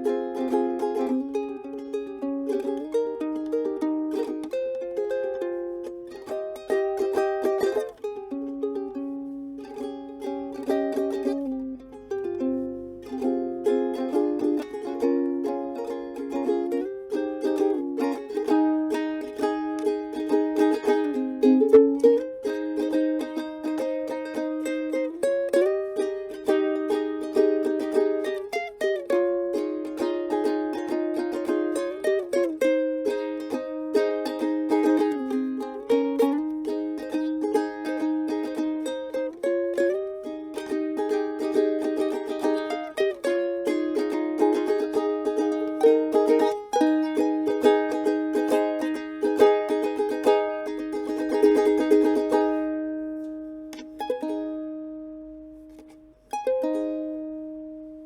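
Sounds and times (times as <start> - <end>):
solo ukulele melody: 0.0 - 58.0.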